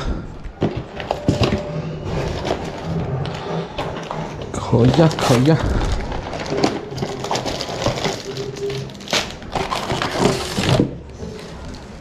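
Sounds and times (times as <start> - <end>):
food packaging crinkling: 2.0 - 12.0.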